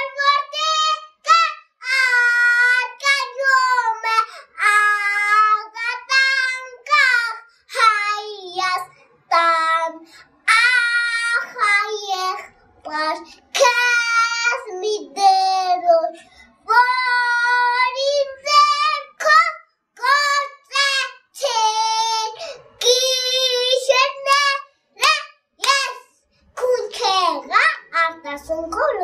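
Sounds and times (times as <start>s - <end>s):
boy singing unaccompanied: 0.0s - 29.0s.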